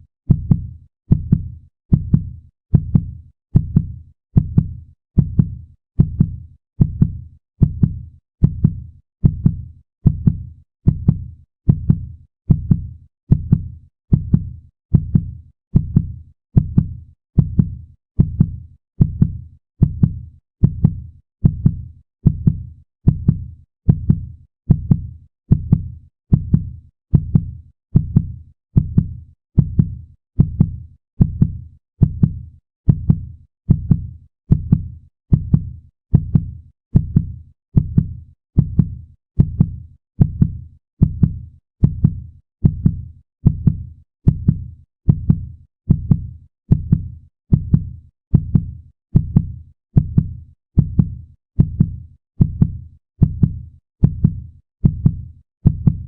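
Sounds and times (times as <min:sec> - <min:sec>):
heartbeat thumps: 0:00.3 - 0:56.0.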